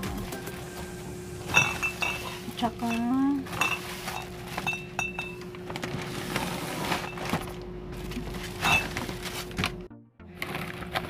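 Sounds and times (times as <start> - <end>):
steady low hum: 0.0 - 11.0
plastic bags rustling: 1.5 - 11.0.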